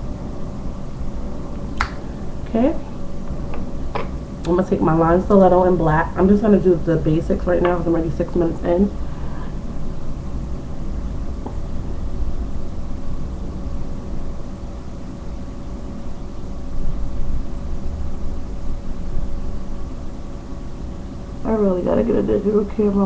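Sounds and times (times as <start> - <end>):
faint even hum: 0.0 - 23.0
low background rumble and hiss: 0.0 - 23.0.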